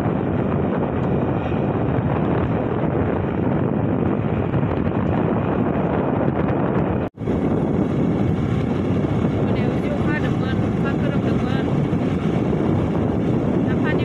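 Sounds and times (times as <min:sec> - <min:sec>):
wind blasting over microphone: 0:00.0 - 0:14.0.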